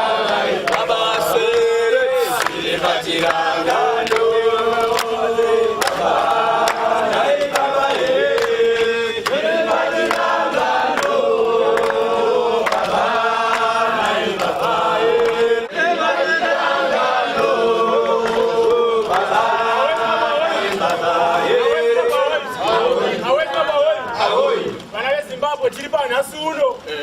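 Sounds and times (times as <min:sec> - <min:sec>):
crowd singing in unison: 0:00.0 - 0:24.9.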